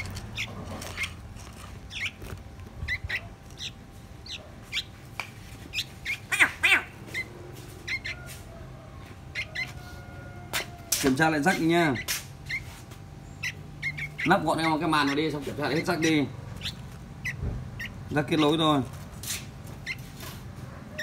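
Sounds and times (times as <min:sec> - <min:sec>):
fledgling birds begging calls: 0:00.0 - 0:20.2
steady low hum: 0:00.0 - 0:21.0.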